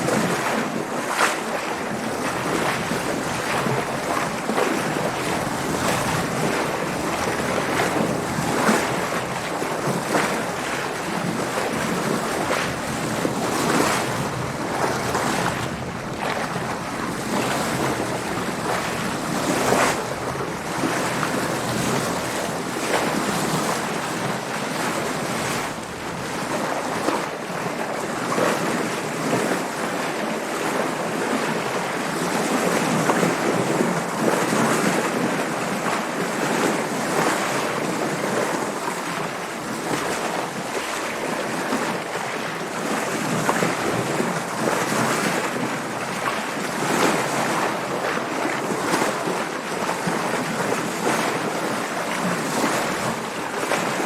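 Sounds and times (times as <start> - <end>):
sea water splashing against hull: 0.0 - 54.0.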